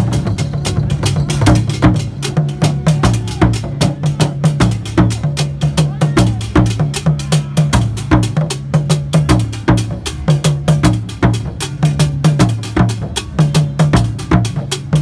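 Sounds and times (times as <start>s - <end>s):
drum ensemble beating fast rhythm: 0.0s - 15.0s.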